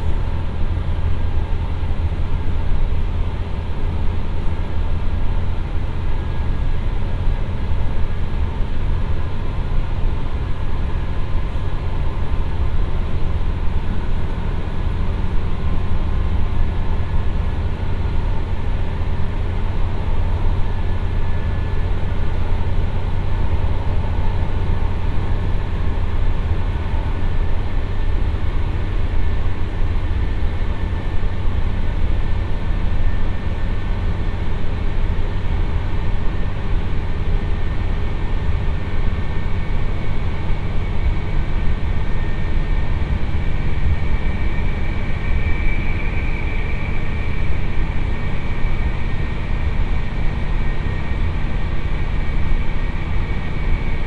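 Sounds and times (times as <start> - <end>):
faint high whine: 0.0 - 54.0
train rumbling on rails: 0.0 - 54.0.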